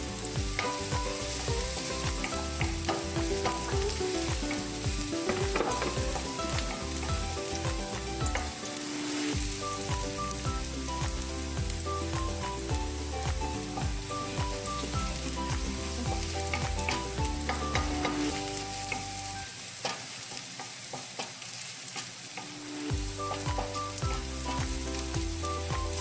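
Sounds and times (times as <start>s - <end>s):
spatula scraping wok: 0.0s - 10.4s, 14.7s - 25.2s
background music: 0.0s - 19.5s, 22.9s - 26.0s
onion sizzling in oil: 0.0s - 26.0s.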